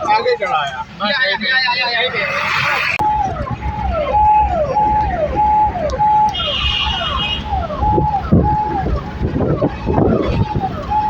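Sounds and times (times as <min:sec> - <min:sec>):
car engine and road rumble: 0:00.0 - 0:11.0
electronic siren cycling: 0:01.7 - 0:11.0.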